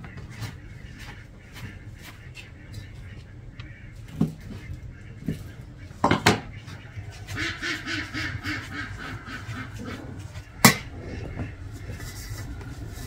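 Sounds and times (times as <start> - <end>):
duck quacking: 0.0 - 12.7.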